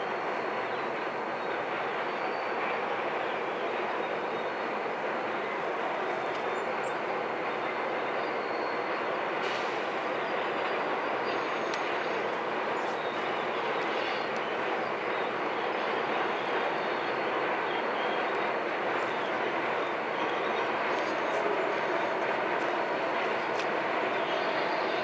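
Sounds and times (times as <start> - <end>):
train cars rumbling on track: 0.0 - 25.0.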